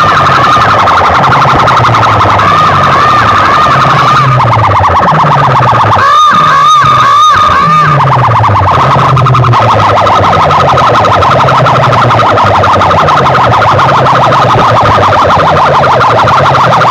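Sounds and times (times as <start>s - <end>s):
deep bass tones sliding downward: 0.0s - 16.9s
fast-warbling siren effect: 0.0s - 16.9s.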